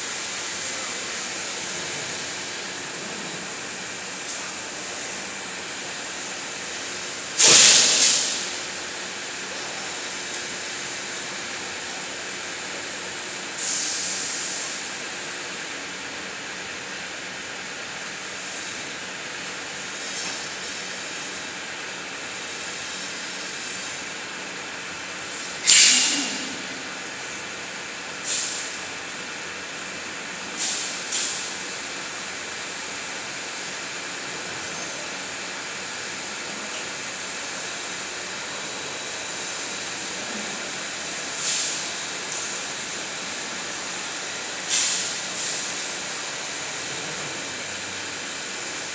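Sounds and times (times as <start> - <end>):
furnace line hissing: 0.0 - 48.9
air blasts hissing: 0.1 - 10.6, 13.4 - 15.1, 18.3 - 32.7, 33.6 - 48.9.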